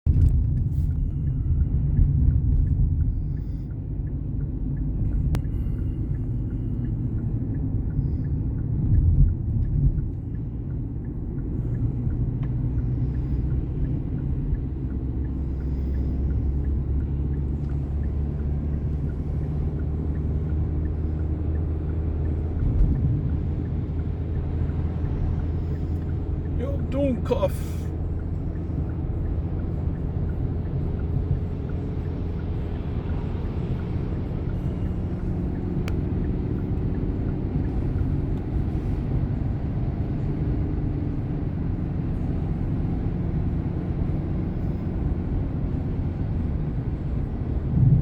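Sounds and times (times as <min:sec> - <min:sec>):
vehicle engine rumble: 0:00.0 - 0:48.0
road noise: 0:00.1 - 0:48.0.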